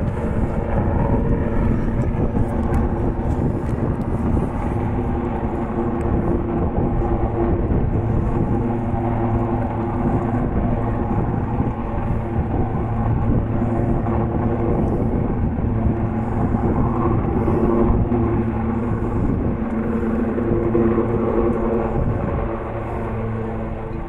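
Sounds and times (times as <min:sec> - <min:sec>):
helicopters flying: 0:00.0 - 0:24.0.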